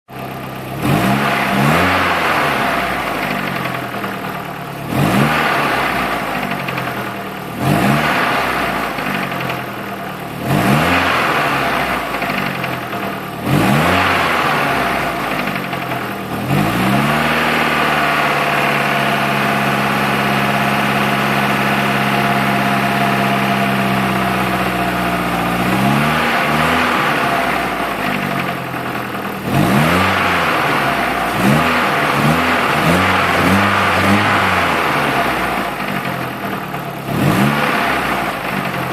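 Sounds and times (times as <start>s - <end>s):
car engine revving in blips: 0.1s - 38.9s.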